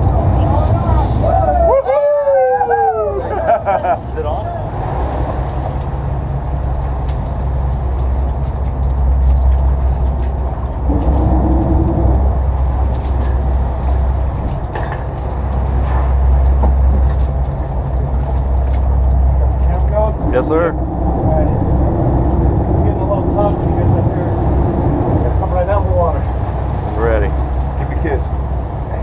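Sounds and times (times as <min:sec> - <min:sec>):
boat engines droning: 0:00.0 - 0:29.0
rushing water and air: 0:00.0 - 0:29.0.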